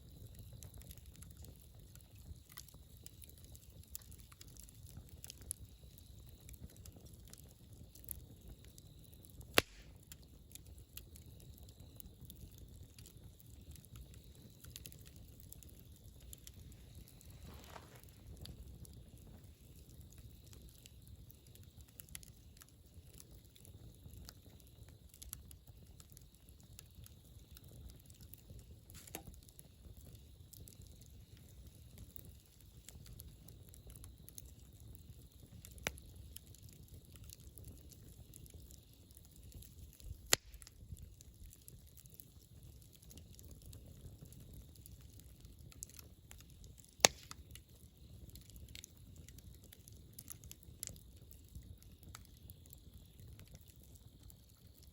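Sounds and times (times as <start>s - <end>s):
campfire rumble: 0.0s - 54.9s
fire crackling and popping: 0.0s - 54.9s.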